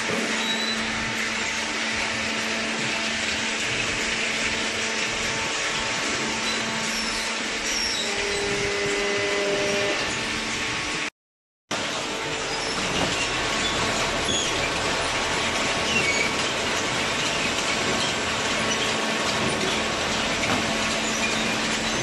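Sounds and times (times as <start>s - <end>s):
baler motor and pump humming: 0.0s - 11.1s, 11.7s - 22.0s.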